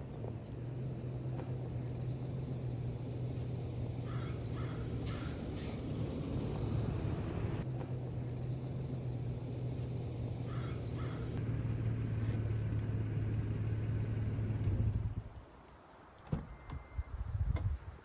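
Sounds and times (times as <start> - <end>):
low engine hum: 0.0 - 15.5.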